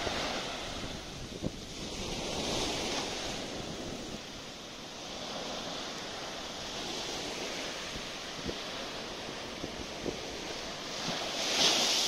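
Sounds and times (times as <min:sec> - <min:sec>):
small waves breaking on beach: 0:00.0 - 0:12.0
wind on microphone: 0:00.0 - 0:12.0.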